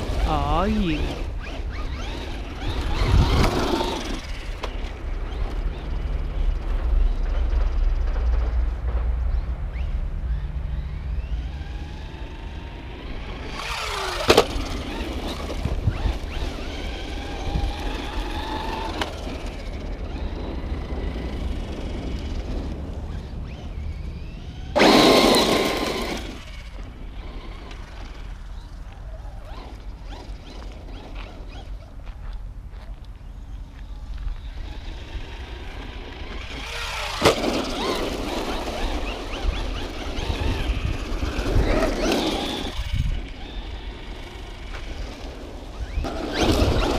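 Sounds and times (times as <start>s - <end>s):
electric motor whining: 0.0s - 6.4s, 11.2s - 31.8s, 33.8s - 46.9s.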